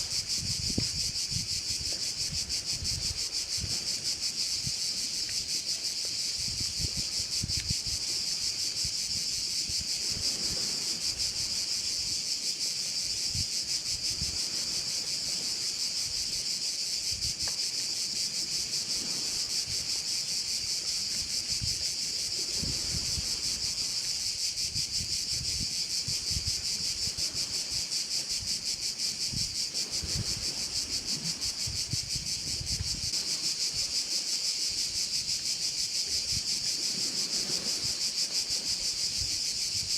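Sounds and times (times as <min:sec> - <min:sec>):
wind rumble on microphone: 0:00.0 - 0:12.3, 0:12.9 - 0:17.6, 0:18.3 - 0:34.1, 0:34.7 - 0:39.9
crickets chirping: 0:00.0 - 0:39.9.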